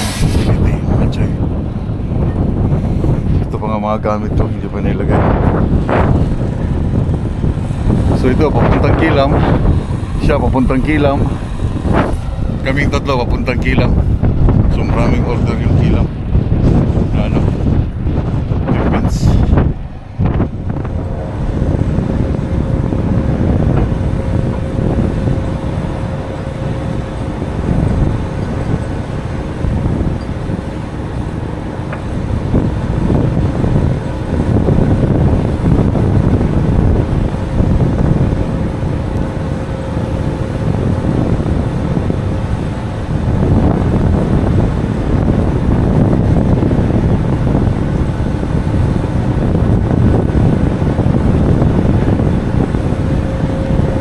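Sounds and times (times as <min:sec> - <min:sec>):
truck engine rumbling: 0:00.0 - 0:54.0
wind noise: 0:00.0 - 0:54.0.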